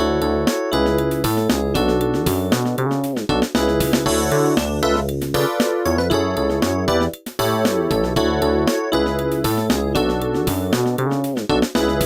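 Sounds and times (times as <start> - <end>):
steady bass line: 0.0 - 12.0.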